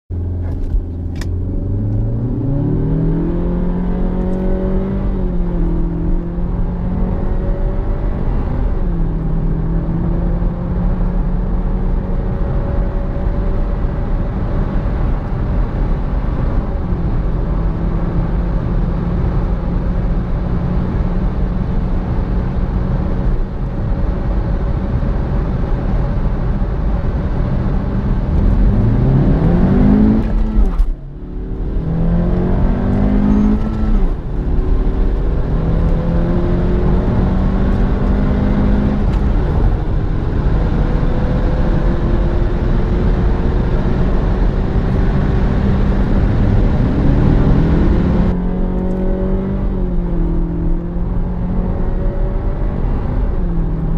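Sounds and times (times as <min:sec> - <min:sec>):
car engine running: 0:00.1 - 0:53.9
road noise: 0:00.1 - 0:53.9.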